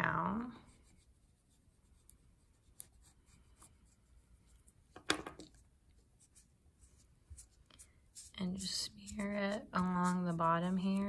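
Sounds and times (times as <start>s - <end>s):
oil pastel scratching on paper: 0.2s - 4.8s, 5.6s - 11.0s.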